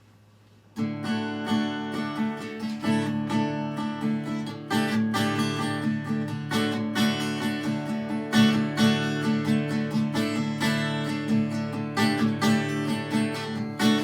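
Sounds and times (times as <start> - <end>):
acoustic guitar strumming chords: 0.7 - 14.0.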